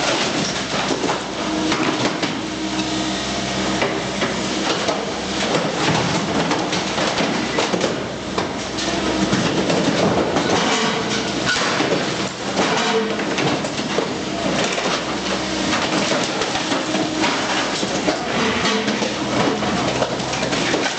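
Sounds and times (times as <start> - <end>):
hydraulic hum: 0.0 - 20.9.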